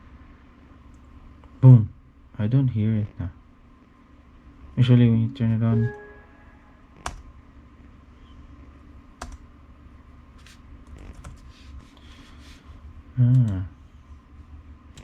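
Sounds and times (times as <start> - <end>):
laptop fan hum: 0.0 - 15.0.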